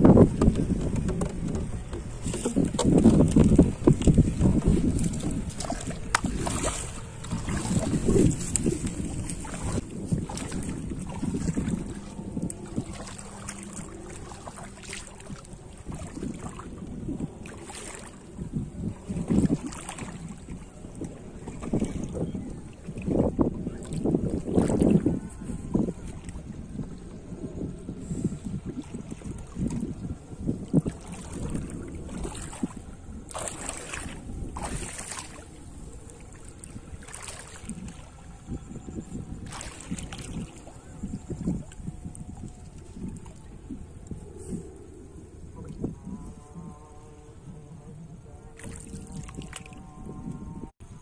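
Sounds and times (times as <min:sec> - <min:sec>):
water sloshing from wading: 0:00.0 - 0:50.6
wind rumbling on microphone: 0:00.0 - 0:51.0.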